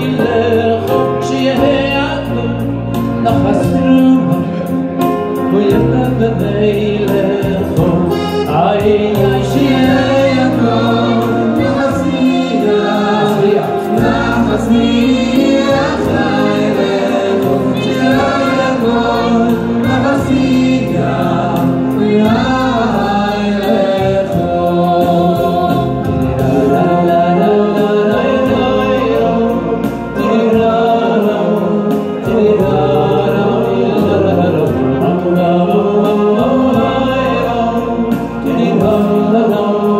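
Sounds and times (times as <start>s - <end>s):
electronic keyboard: 0.0s - 39.9s
male choir singing in harmony: 0.0s - 39.9s.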